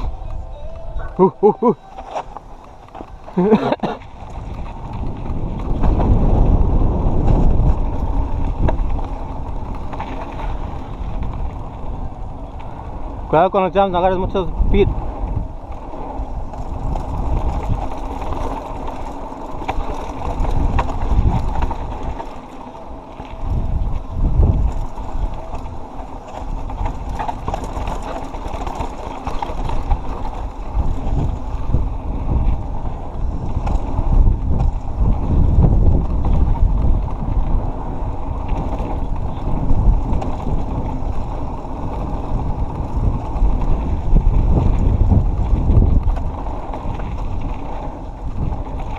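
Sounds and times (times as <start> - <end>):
bike rattling: 0.0 - 48.9
bike tyre noise: 0.0 - 48.9
wind buffeting microphone: 0.0 - 48.9
ticks and knocks from trail: 1.8 - 13.1, 15.0 - 48.9.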